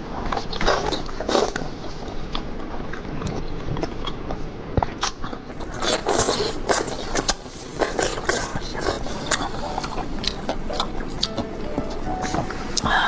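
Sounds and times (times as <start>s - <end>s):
chewing with wet crunches: 0.2s - 13.0s.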